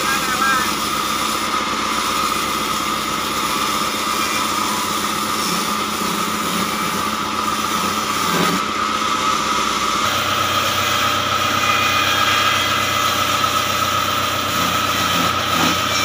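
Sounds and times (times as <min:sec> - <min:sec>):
band saw whining: 0:00.0 - 0:16.0.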